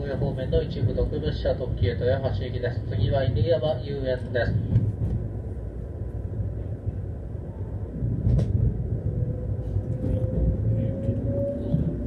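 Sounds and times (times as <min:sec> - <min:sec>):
train rumbling over a bridge: 0:00.0 - 0:12.0.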